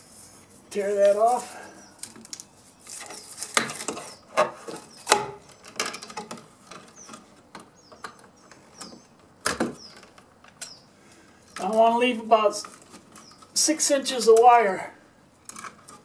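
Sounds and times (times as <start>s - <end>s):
wires rustling and scraping: 0.0s - 16.0s.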